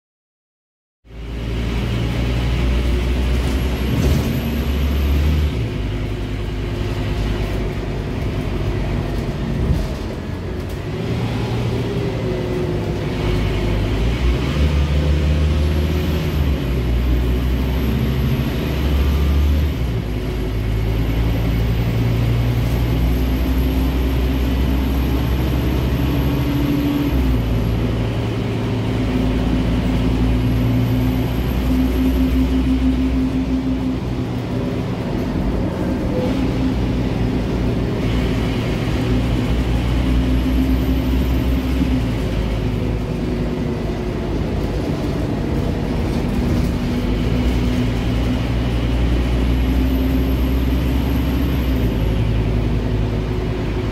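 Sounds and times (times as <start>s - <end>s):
bus diesel engine running: 1.1s - 53.9s.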